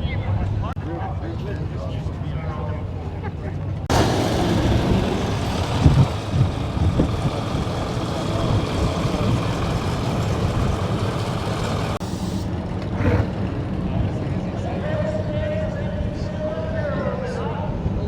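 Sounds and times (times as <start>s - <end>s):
vehicle engine rumbling: 0.0s - 16.8s.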